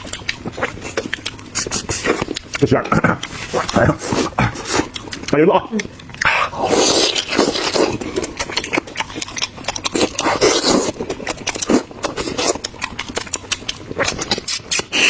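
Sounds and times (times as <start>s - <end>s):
crackly mouth clicks: 0.0s - 15.0s
person chewing food: 0.0s - 15.0s.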